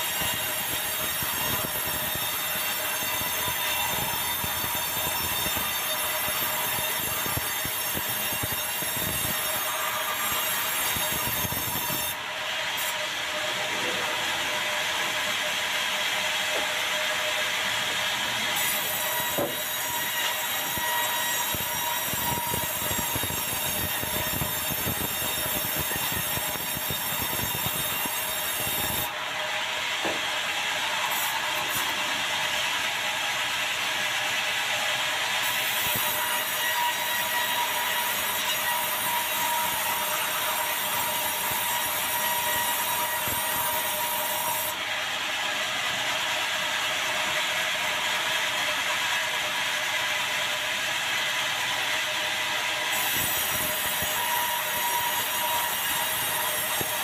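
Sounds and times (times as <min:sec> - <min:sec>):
band saw cutting through log: 0:00.0 - 0:57.0.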